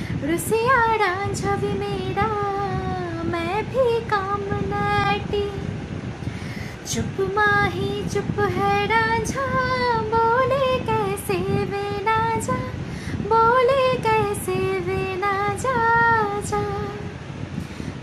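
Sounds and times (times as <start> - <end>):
woman singing slow song: 0.0 - 18.0.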